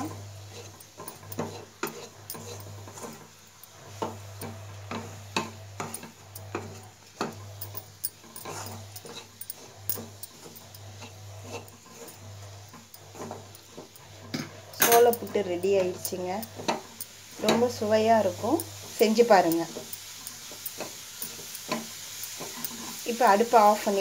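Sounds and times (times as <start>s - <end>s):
wooden spatula scraping steel pan: 0.0s - 24.0s.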